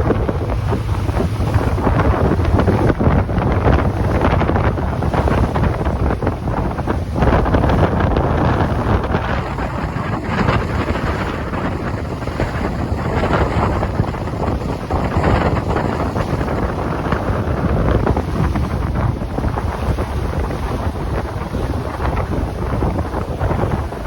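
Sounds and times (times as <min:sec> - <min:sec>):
boat engine rushing: 0:00.0 - 0:24.0
water along hull: 0:00.0 - 0:24.0
wind buffeting microphone: 0:00.0 - 0:24.0.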